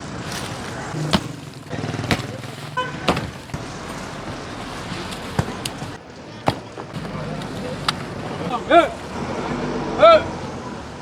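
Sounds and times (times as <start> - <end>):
engine rumble: 0.0 - 11.0
sharp knocks: 0.2 - 9.1.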